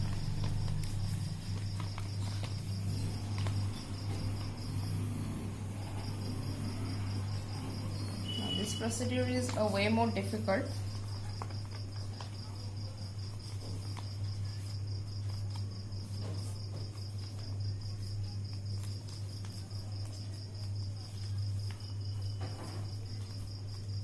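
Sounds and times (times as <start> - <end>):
cricket chirping: 0.0 - 24.0
paper rustling: 0.0 - 24.0.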